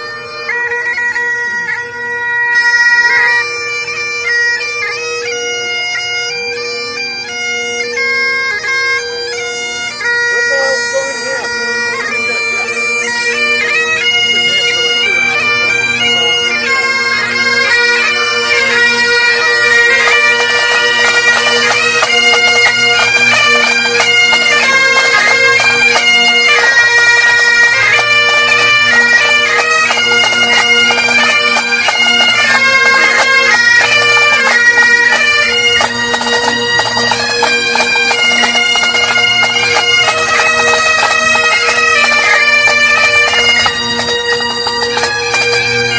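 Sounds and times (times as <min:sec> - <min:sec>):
bagpipe chanter melody: 0:00.0 - 0:45.9
bagpipe drone: 0:00.0 - 0:45.9.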